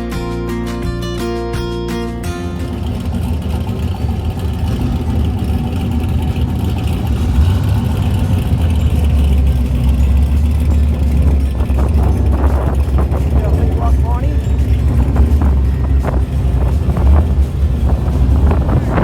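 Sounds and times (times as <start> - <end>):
hot rod engine rumbling: 2.0 - 19.0.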